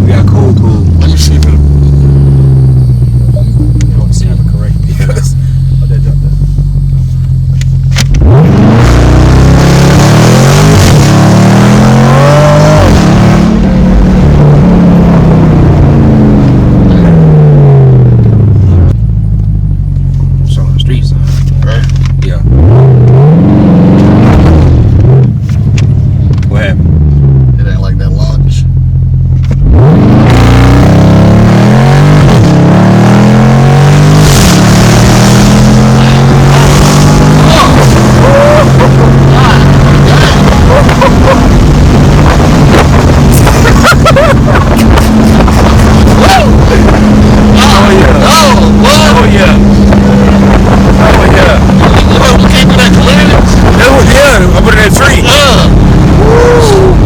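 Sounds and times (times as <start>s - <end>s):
car engine accelerating hard: 0.0s - 57.0s.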